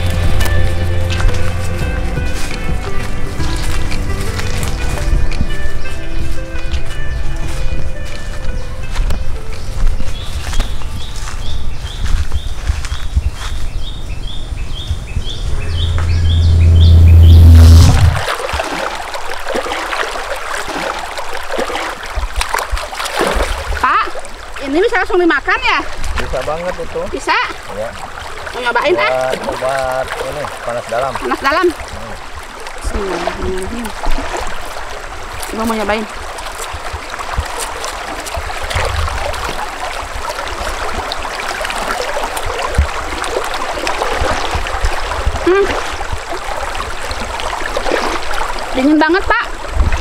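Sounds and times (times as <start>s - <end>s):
tubers washed by hand in water: 0.0s - 13.7s, 17.5s - 50.0s
river water running and splashing: 0.0s - 50.0s.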